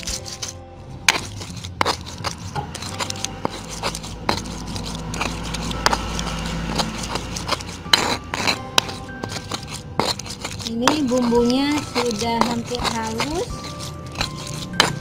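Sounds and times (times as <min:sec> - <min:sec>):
pestle grinding on stone mortar: 0:00.0 - 0:15.0.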